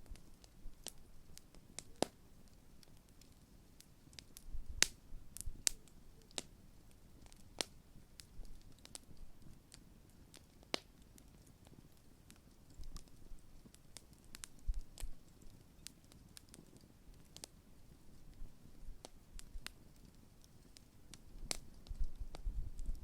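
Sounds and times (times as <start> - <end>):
bonfire crackling and popping: 0.0 - 23.0.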